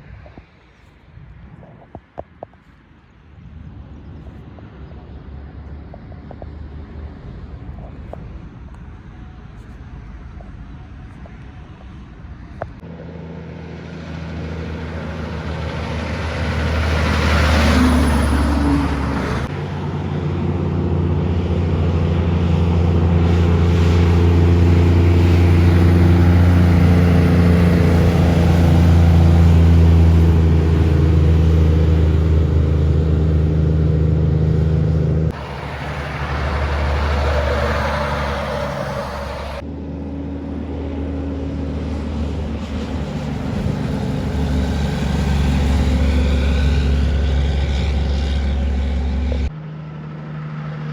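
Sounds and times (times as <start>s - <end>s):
heavy diesel trucks driving by: 8.9s - 50.9s.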